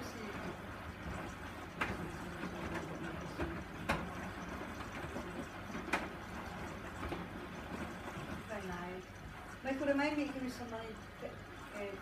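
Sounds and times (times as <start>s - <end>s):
washing machine drum rumble: 0.0s - 12.0s.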